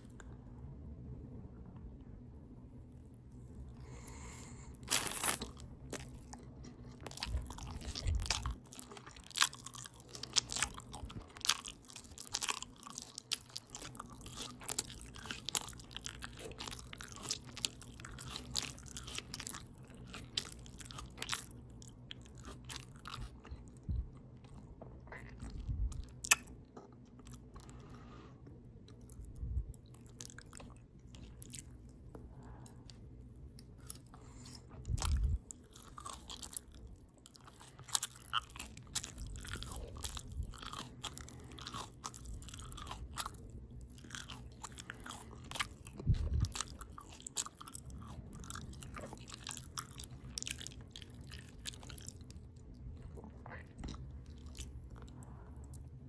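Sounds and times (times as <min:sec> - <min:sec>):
open-mouth chewing: 0:03.6 - 0:56.0.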